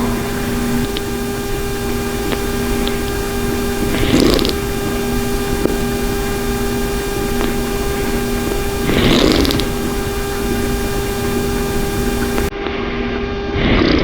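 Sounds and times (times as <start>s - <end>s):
steady machine hum: 0.0s - 12.5s.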